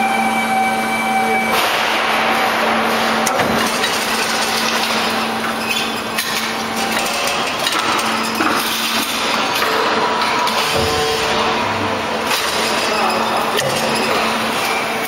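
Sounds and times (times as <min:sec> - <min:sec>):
machinery mechanical din: 0:01.4 - 0:15.0
constant low hum: 0:01.5 - 0:14.8.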